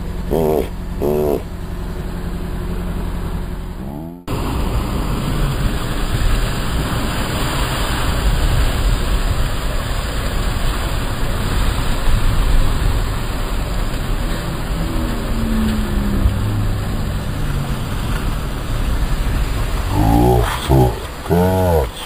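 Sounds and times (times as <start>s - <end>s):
car engine under load: 0.0s - 19.9s
water splashing: 4.3s - 22.0s.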